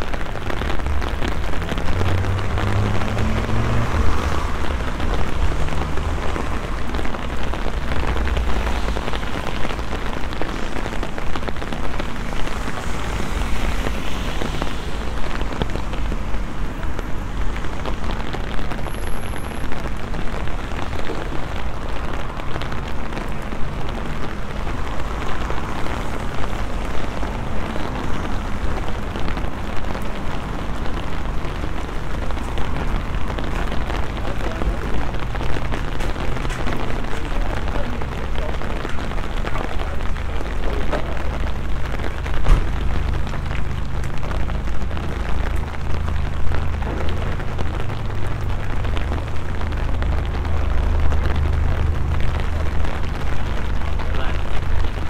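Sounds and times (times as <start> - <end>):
rain on wet pavement: 0.0 - 55.0.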